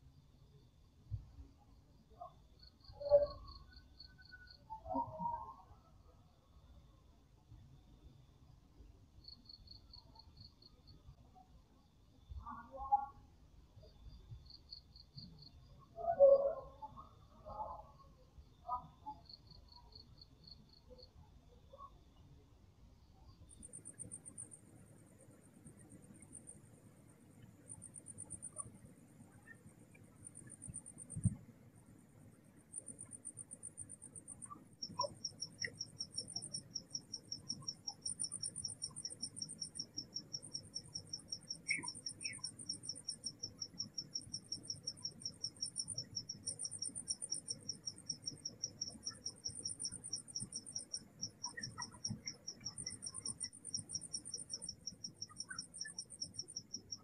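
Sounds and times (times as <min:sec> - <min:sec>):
lower insect pulsed chirp: 0:00.0 - 0:57.0
cricket high-pitched trill: 0:01.7 - 0:06.1, 0:09.2 - 0:11.5, 0:12.2 - 0:22.0, 0:23.2 - 0:57.0.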